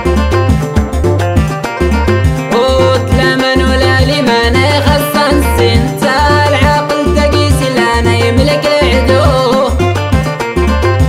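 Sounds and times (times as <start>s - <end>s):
fast percussion beat: 0.0s - 11.0s
heavy bass notes: 0.0s - 11.0s.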